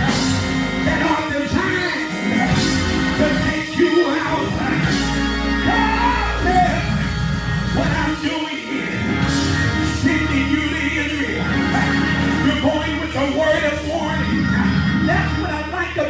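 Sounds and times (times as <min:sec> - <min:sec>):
person singing: 0:00.0 - 0:07.0, 0:07.8 - 0:16.0
band accompaniment: 0:00.0 - 0:16.0.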